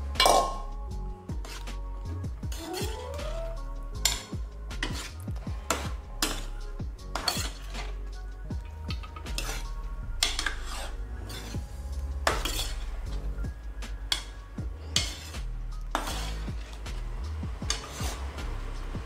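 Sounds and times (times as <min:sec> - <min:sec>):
ladle scraping a steel pan: 0:00.2 - 0:00.7, 0:01.3 - 0:01.8, 0:02.4 - 0:17.1, 0:17.7 - 0:18.4.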